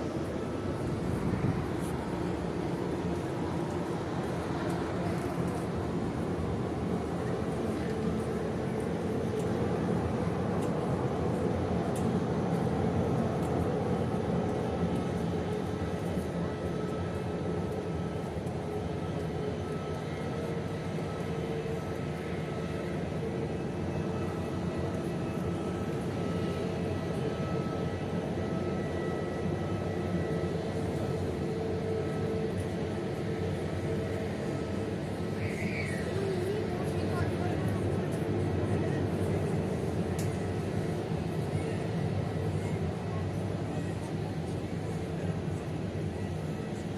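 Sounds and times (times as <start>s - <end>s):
jet engines rushing in cabin: 0.0s - 46.9s.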